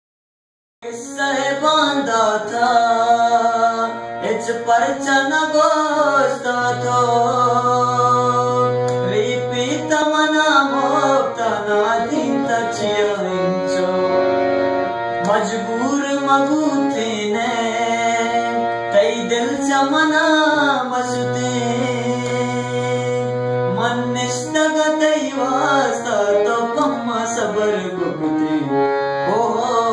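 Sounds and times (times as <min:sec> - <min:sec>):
harmonium melody: 0:00.8 - 0:29.9.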